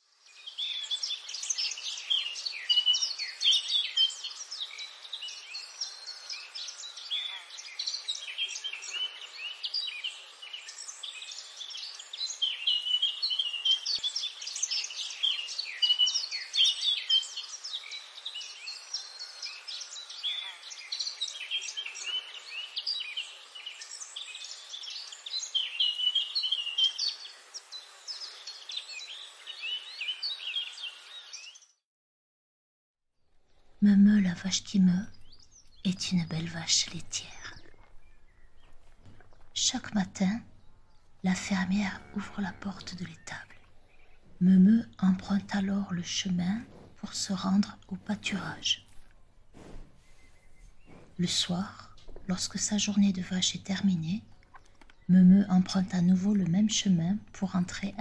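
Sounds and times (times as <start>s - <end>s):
small birds chirping in chorus: 0.1s - 31.8s, 33.5s - 58.0s.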